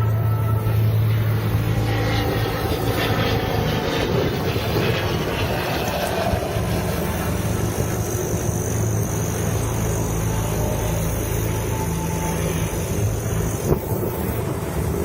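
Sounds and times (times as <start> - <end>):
helicopter rotor and engine: 0.0 - 15.0.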